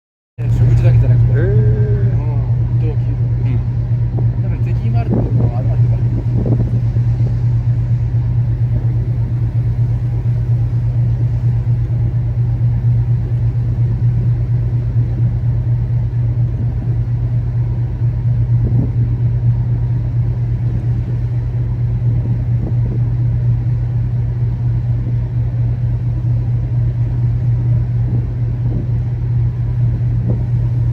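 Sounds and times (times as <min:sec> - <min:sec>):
ship engines droning: 0:00.4 - 0:30.9.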